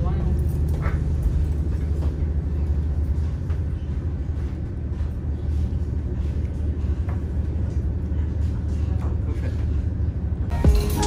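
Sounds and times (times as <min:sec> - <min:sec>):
passenger train rumbling: 0:00.0 - 0:11.0.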